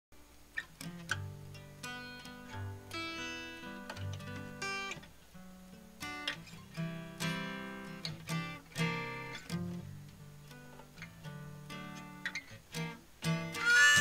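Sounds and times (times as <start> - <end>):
acoustic guitar chords: 0.2 - 14.0.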